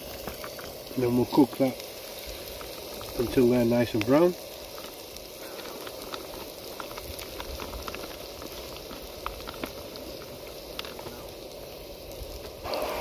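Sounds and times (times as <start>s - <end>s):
onions sizzling in oil: 0.0s - 13.0s
small pops and crackles: 0.0s - 13.0s.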